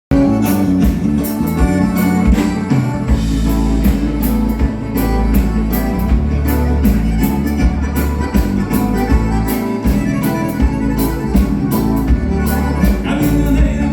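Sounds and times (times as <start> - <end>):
band playing dance music: 0.1 - 13.9
bass line: 0.1 - 13.9
drums and cymbals: 0.1 - 13.9.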